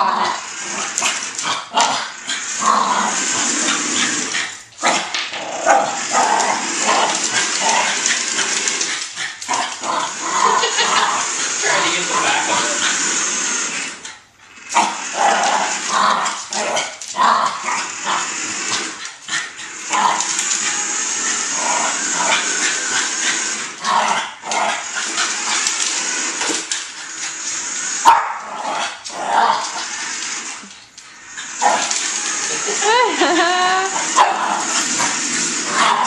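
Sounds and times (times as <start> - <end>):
steady high hiss: 2.2 - 36.0.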